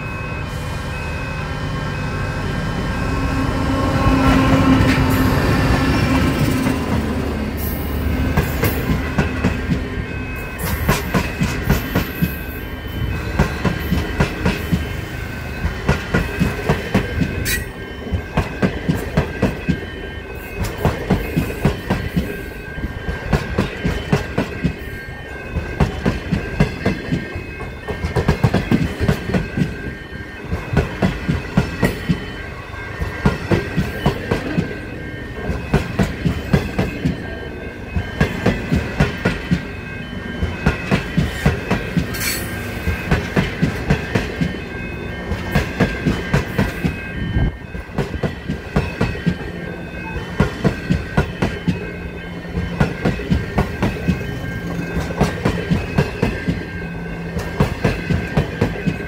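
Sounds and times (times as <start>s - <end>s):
train rumble: 0.0s - 59.0s.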